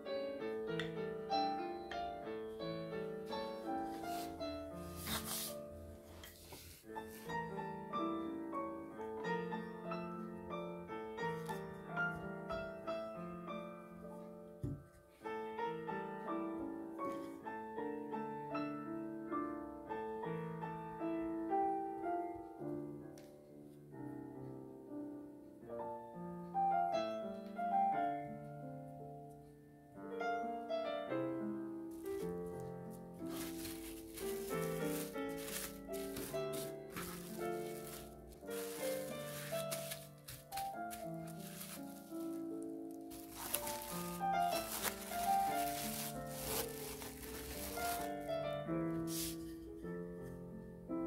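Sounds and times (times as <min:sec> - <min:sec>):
gentle piano music: 0:00.0 - 0:51.0.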